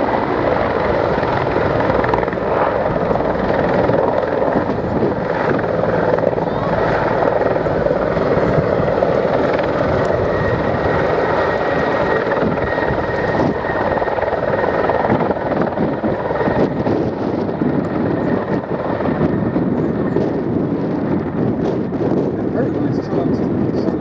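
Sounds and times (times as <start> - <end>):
helicopter engines and rotor: 0.0 - 24.0
high turbine whine: 0.0 - 24.0.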